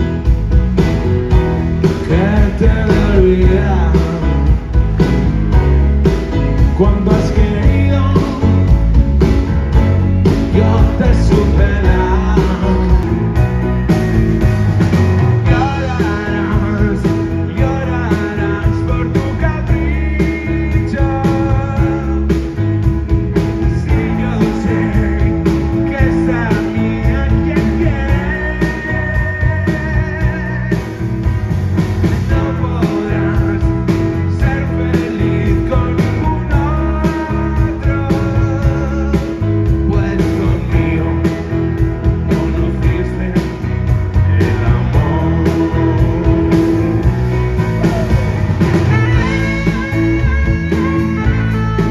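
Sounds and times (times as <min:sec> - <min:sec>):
bass: 0:00.0 - 0:51.9
drums: 0:00.0 - 0:51.9
electric guitar melody: 0:00.0 - 0:51.9.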